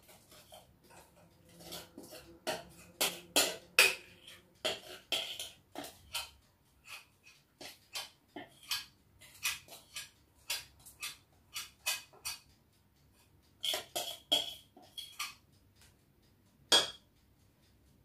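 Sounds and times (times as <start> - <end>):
utensil clinking against a bowl: 0.0 - 12.5, 13.2 - 15.4, 16.7 - 17.1.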